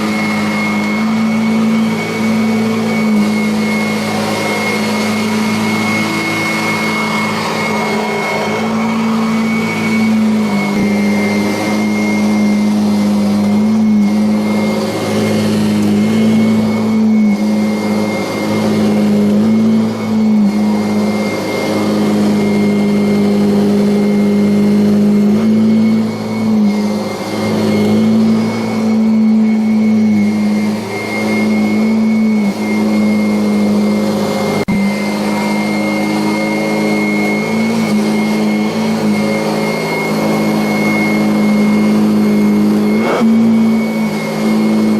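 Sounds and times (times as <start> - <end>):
vacuum cleaner running on carpet: 0.0 - 44.9.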